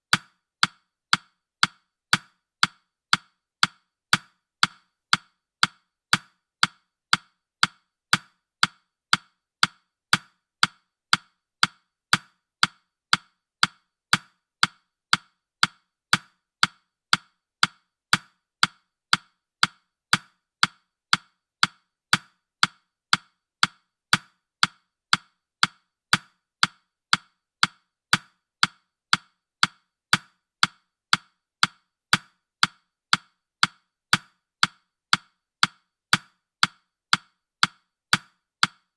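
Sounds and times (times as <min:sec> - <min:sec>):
woody timer ticks: 0:00.0 - 0:38.9.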